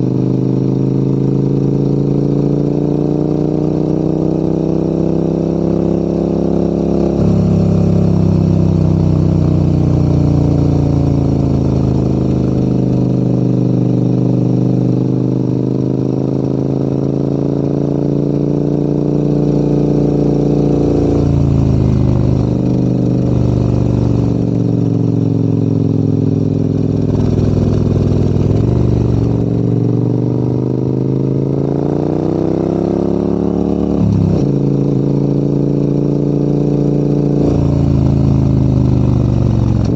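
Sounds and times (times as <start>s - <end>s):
motorcycle engine pulling uphill: 0.0s - 39.9s.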